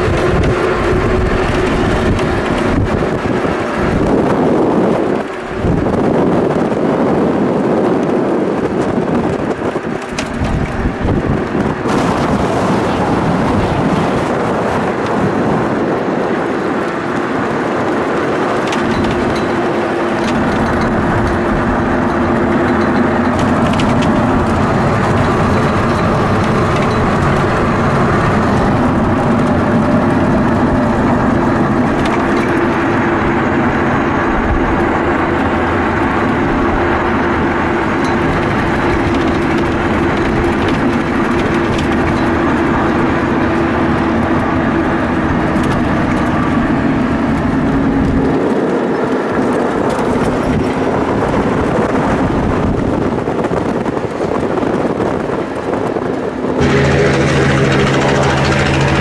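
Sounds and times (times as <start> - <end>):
helicopter droning: 0.0 - 59.0.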